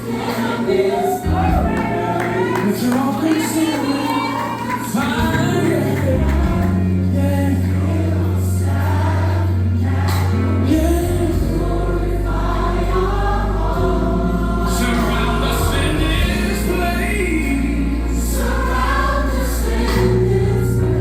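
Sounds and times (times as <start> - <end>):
sustained low bass notes: 0.0 - 3.6, 5.0 - 21.0
gospel choir singing: 0.0 - 21.0.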